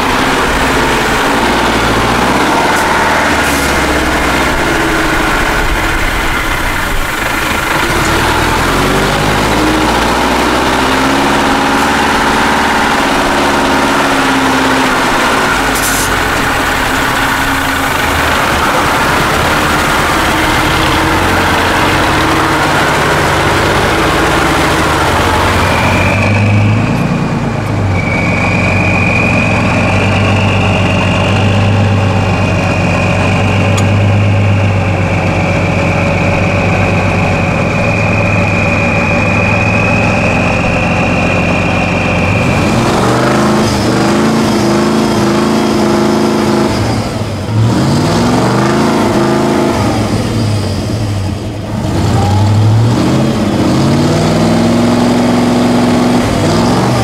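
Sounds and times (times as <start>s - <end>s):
steady high whine: 0.0s - 54.0s
diesel truck engine under load: 0.0s - 57.0s
truck engine revving: 0.0s - 57.0s.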